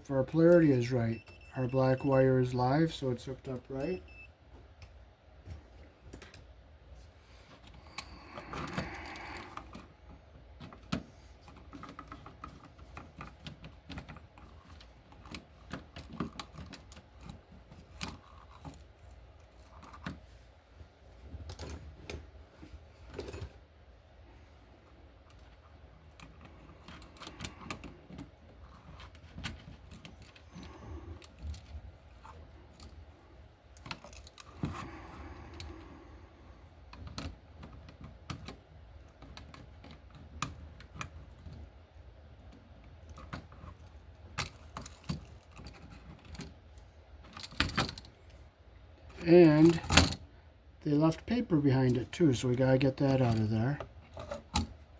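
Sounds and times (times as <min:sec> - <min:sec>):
low steady hum: 0:00.0 - 0:54.9.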